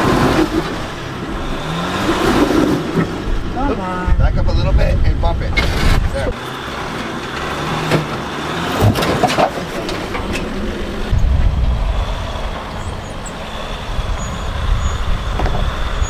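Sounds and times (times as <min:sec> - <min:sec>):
off-road engine under load: 0:00.0 - 0:16.0.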